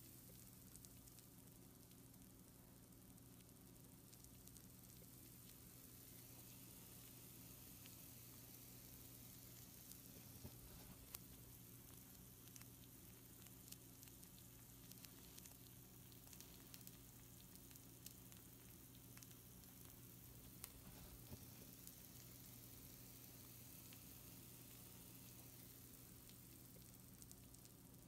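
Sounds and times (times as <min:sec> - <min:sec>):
food sizzling on a baking sheet: 0:00.0 - 0:28.0.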